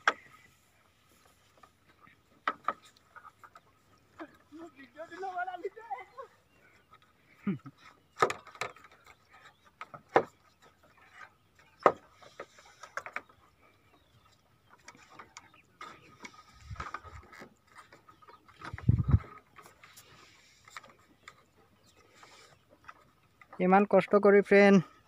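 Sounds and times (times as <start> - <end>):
bamboo footbridge creaking and knocking: 0.0 - 25.0.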